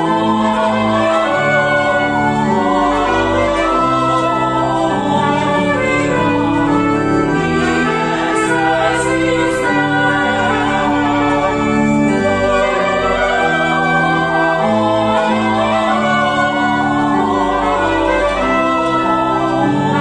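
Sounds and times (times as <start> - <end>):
sustained organ chords: 0.0 - 20.0
voices singing a hymn in parts: 0.0 - 20.0.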